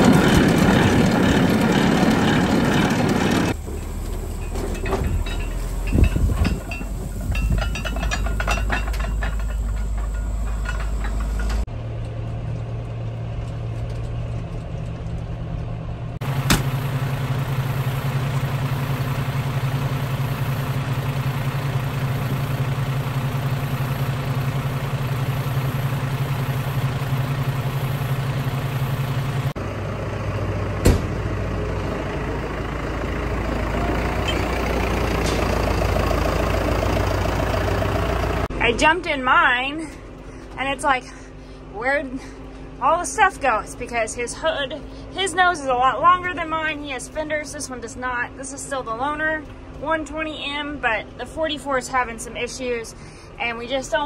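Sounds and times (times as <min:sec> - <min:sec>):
diesel tractor engines running: 0:00.0 - 0:54.0.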